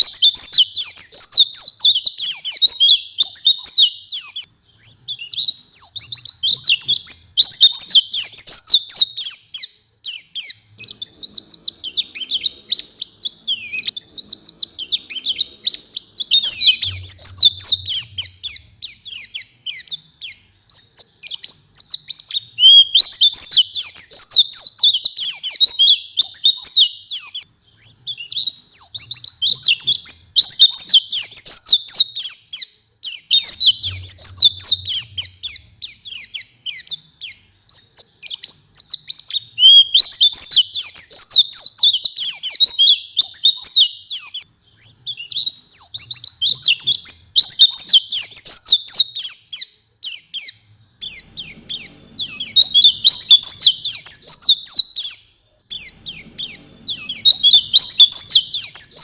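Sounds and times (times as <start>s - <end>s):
bird twittering and trilling: 0.0s - 59.0s.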